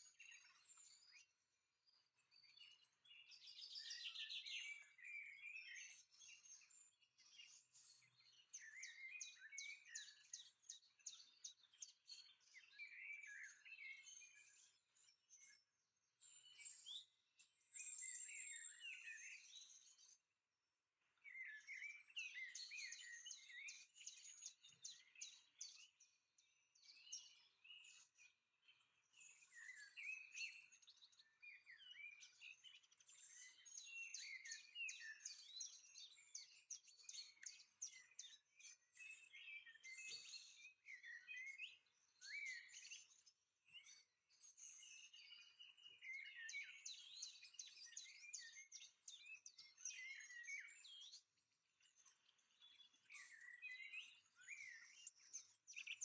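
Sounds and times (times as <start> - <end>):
faint bird chirping: 0.0 - 20.2, 21.1 - 56.0.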